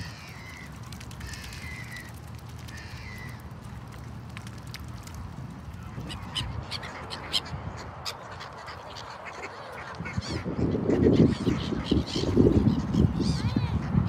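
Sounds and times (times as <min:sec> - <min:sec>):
waterbirds calling in sharp cries: 0:00.0 - 0:03.5, 0:05.8 - 0:14.0.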